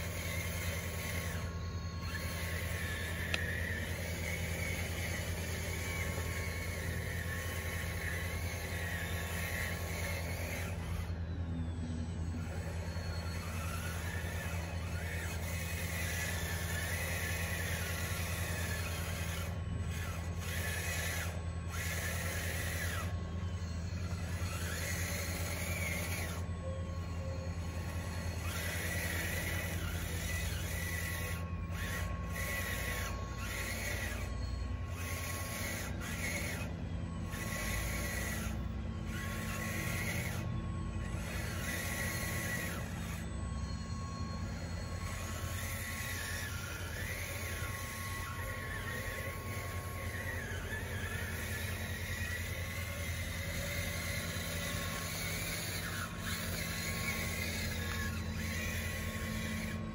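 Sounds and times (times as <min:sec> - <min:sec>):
electric motor hum: 0:00.0 - 0:59.9
motor whine: 0:00.0 - 0:59.9.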